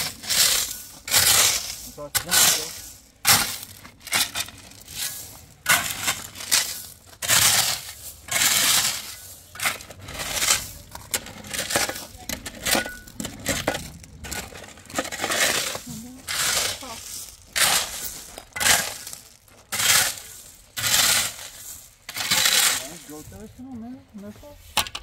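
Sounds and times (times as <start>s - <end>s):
shovel scraping into gravel: 0.0s - 23.5s.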